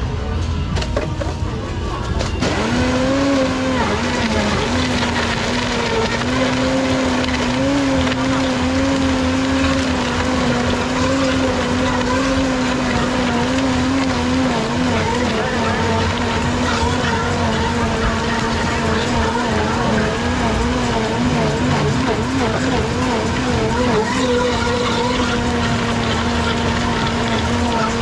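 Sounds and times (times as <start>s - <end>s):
blender motor crushing ice: 2.3s - 28.0s.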